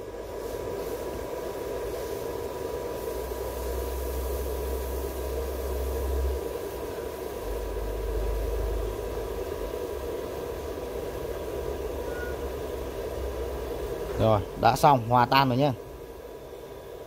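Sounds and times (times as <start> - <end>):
machine hum: 0.0 - 17.0
thin constant tone: 0.0 - 17.0.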